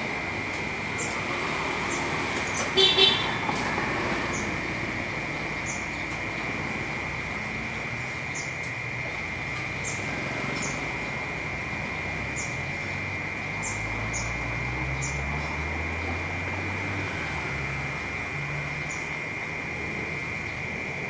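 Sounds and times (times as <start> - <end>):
birds chirping: 0.0 - 20.8
cicadas droning: 0.0 - 21.0
low traffic rumble: 0.0 - 21.0.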